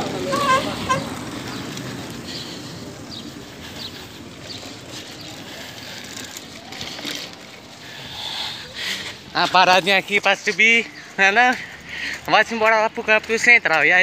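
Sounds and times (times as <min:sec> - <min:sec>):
bicycle tyres rolling on cobblestones: 0:00.0 - 0:14.0.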